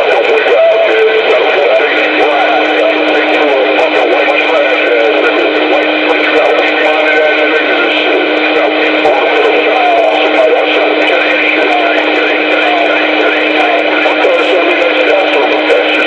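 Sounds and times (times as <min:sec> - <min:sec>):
garbled radio voices: 0:00.0 - 0:16.0
radio static: 0:00.0 - 0:16.0
steady low whistle: 0:00.0 - 0:16.0.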